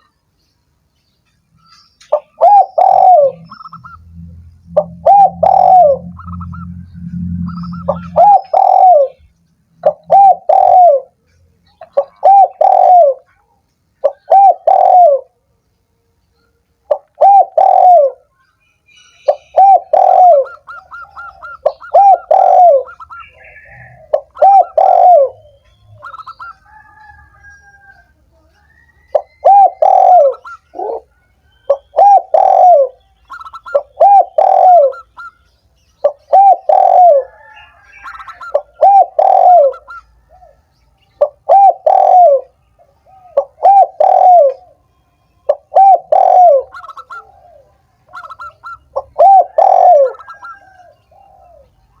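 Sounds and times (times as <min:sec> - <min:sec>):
doves cooing: 0:02.1 - 0:11.2, 0:11.8 - 0:13.4, 0:14.0 - 0:15.3, 0:16.9 - 0:18.3, 0:19.2 - 0:35.4, 0:36.0 - 0:44.8, 0:45.5 - 0:52.0.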